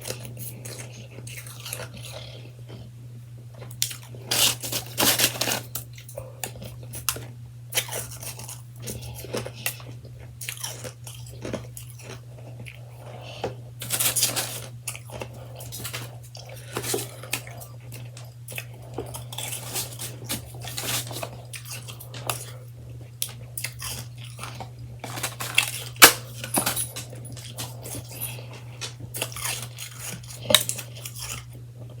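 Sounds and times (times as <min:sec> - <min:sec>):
chewing shaved ice crunches: 0:00.0 - 0:32.0
steady low hum: 0:00.0 - 0:32.0.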